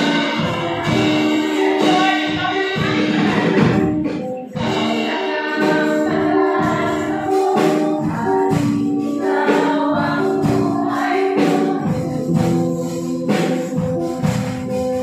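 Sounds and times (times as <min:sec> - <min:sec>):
congregation singing: 0:00.0 - 0:15.0
live band playing: 0:00.0 - 0:15.0.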